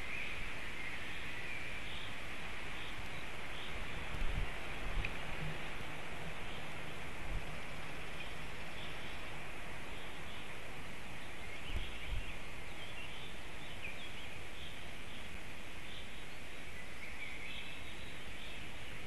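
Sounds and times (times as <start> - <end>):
faint songbird chirps: 0.0 - 19.0
forest ambience hiss: 0.0 - 19.0.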